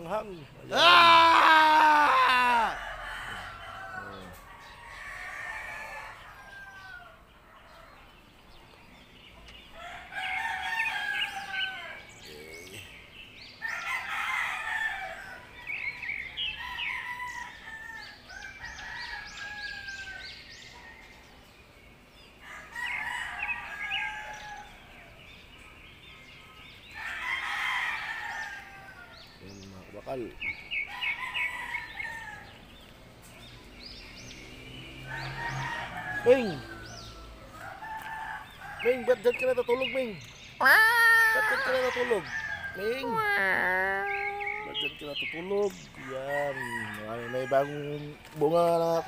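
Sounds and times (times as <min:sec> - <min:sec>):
roosters crowing: 0:00.0 - 0:49.0.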